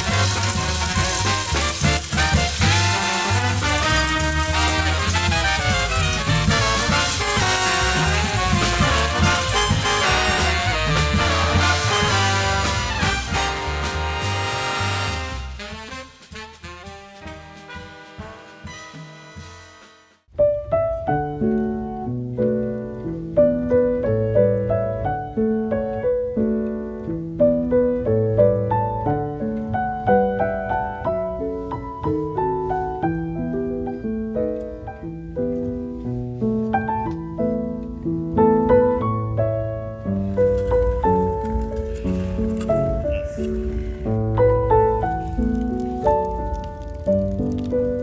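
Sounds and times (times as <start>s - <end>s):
gentle piano music: 0.0s - 16.0s, 20.3s - 48.0s.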